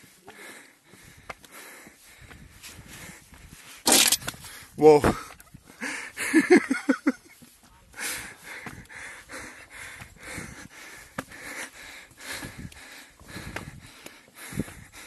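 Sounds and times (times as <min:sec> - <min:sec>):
person panting hard: 0:00.0 - 0:15.0.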